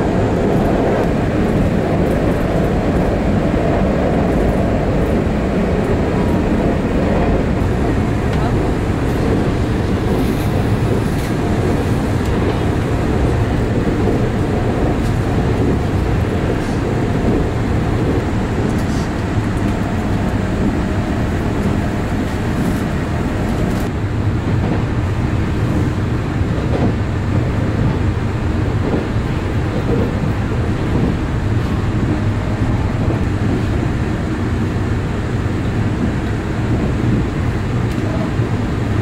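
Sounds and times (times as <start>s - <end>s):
wheels rumbling on rail: 0.0s - 39.0s.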